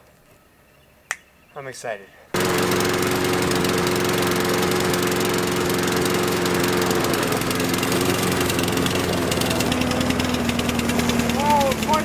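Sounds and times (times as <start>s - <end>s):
lawn mower engine running: 2.3s - 12.0s.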